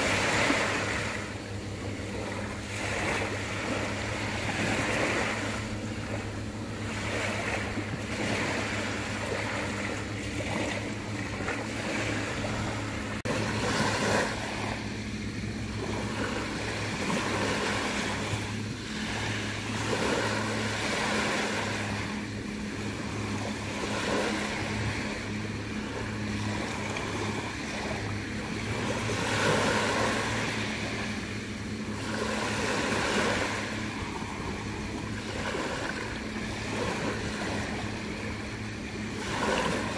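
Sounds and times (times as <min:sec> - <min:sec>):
sea waves washing in: 0:00.0 - 0:39.9
steady low hum: 0:00.0 - 0:39.9.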